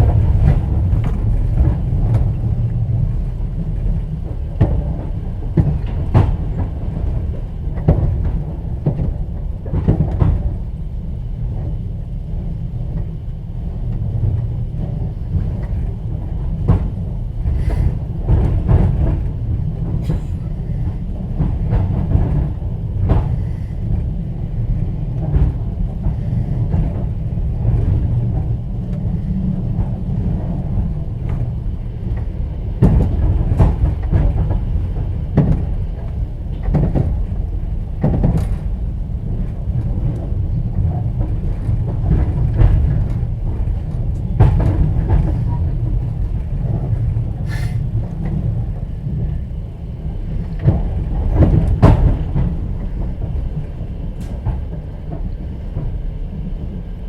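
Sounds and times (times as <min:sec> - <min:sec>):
wheels knocking and rattling: 0:00.0 - 0:10.8, 0:11.5 - 0:56.8
train running gear rumble: 0:00.0 - 0:57.0.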